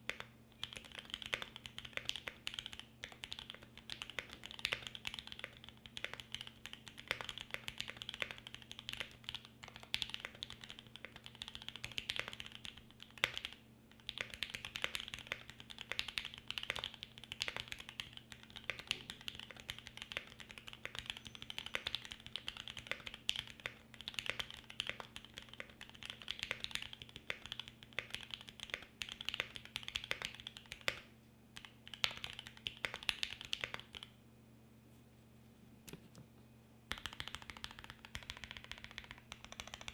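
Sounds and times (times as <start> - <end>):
fast typing on mechanical keyboard: 0.1 - 31.0, 31.6 - 34.1, 36.9 - 39.9.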